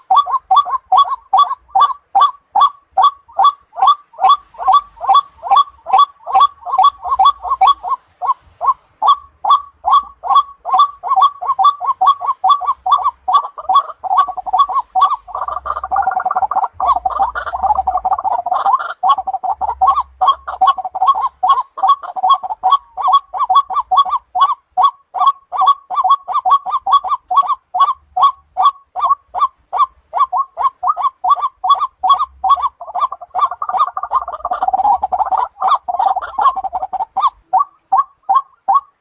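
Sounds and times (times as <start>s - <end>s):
waterhen croaking calls: 0.0s - 39.0s.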